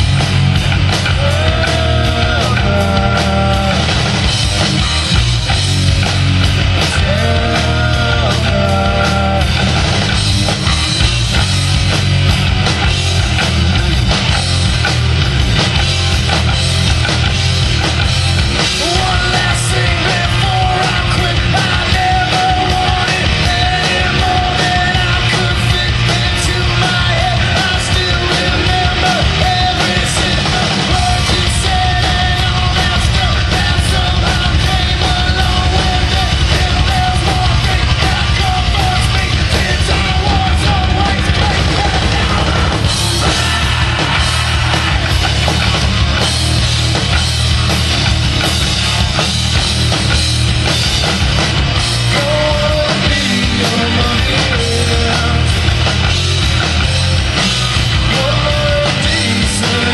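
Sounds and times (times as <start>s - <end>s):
rock band playing punk music: 0.0s - 59.9s.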